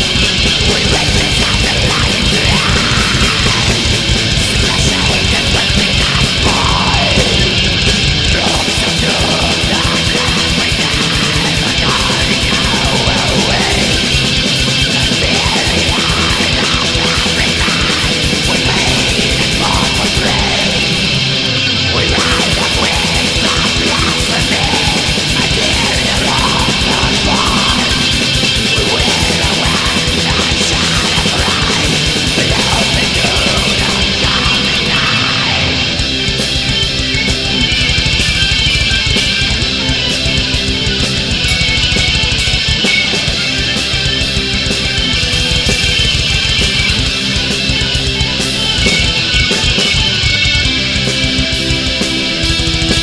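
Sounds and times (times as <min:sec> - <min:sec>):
distorted electric guitars: 0:00.0 - 0:53.0
fast driving drums: 0:00.0 - 0:53.0.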